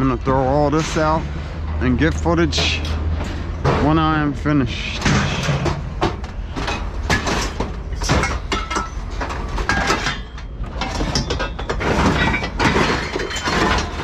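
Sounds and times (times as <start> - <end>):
scrap metal parts clattering: 0.0 - 14.0.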